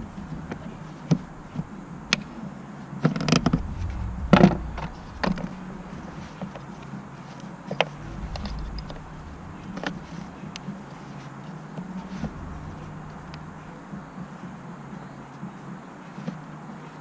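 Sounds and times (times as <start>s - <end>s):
low steady hum: 0.0s - 15.1s.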